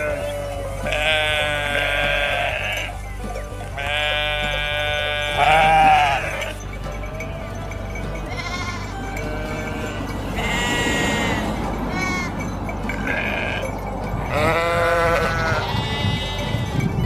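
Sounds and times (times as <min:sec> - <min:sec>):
sheep bleating: 0:00.0 - 0:16.8.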